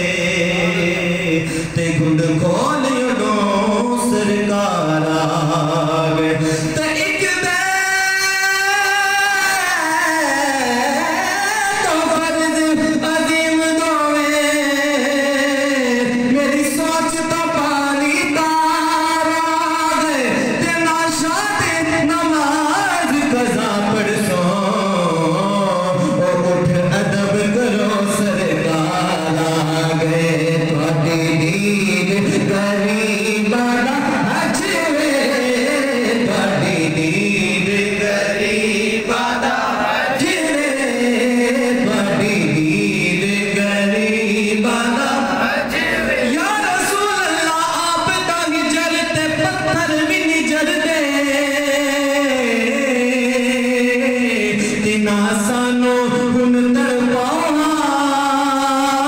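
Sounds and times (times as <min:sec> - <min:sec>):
man singing into a microphone: 0:00.0 - 0:59.0.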